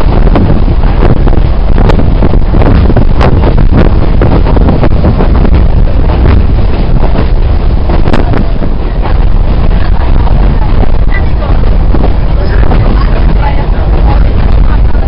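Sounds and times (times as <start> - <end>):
train low rumble: 0.0 - 15.0
wind buffeting microphone: 0.0 - 15.0.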